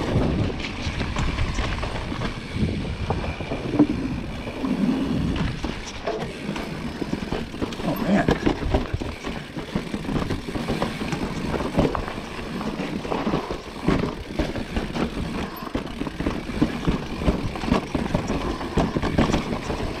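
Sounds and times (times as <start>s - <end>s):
bike knocking and rattling: 0.0s - 20.0s
bike tyres rumbling over rocks: 0.0s - 20.0s.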